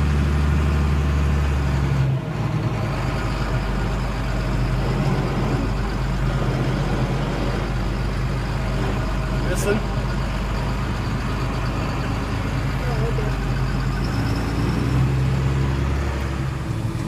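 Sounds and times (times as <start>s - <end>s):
heavy machinery engine humming: 0.0s - 17.0s.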